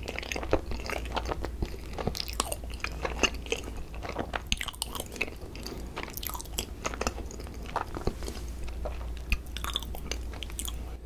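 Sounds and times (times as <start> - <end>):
chewing soft bread: 0.0 - 11.0.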